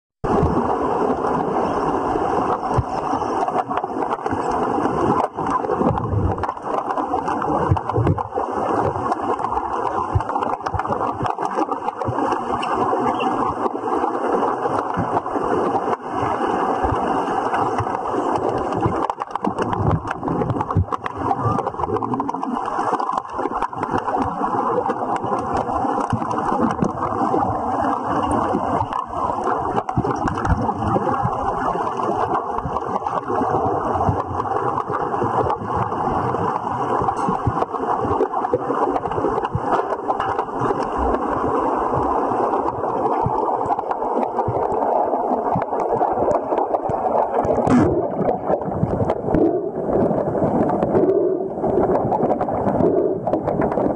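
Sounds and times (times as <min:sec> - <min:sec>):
pool water churning and gurgling: 0:00.2 - 0:53.9.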